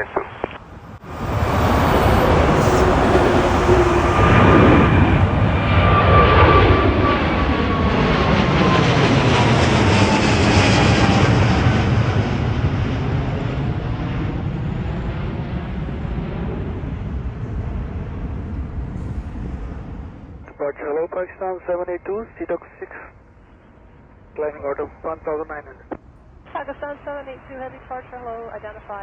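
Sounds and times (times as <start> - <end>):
jet airliner taking off: 0.0 - 27.4.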